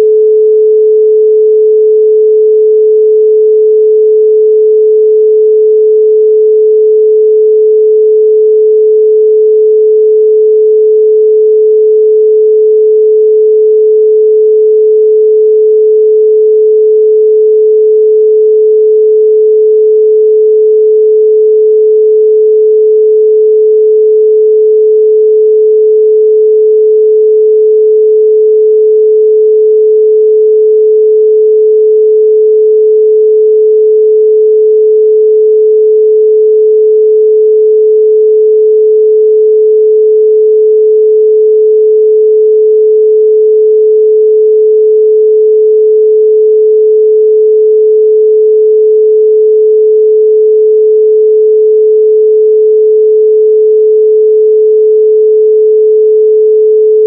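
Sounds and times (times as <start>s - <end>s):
loud pure sine tone: 0.0s - 57.0s.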